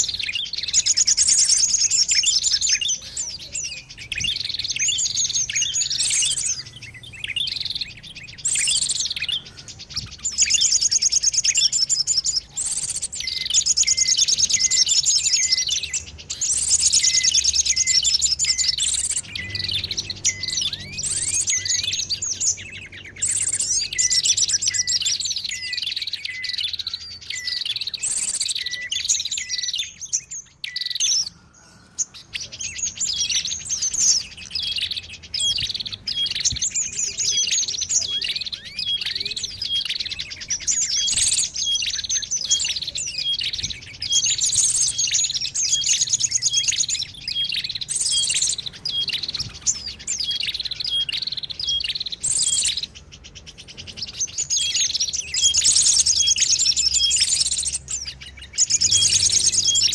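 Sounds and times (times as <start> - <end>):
songbirds chattering: 0.0 - 59.9.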